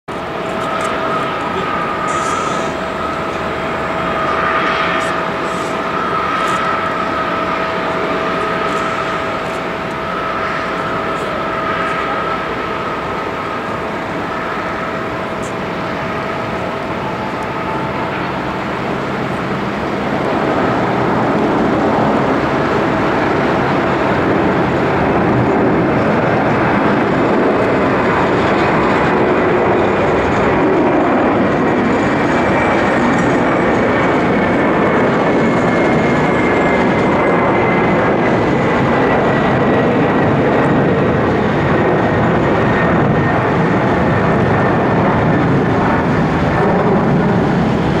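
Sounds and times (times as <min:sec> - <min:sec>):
faint high whine: 0:00.1 - 0:48.0
jet engines roaring: 0:00.1 - 0:48.0.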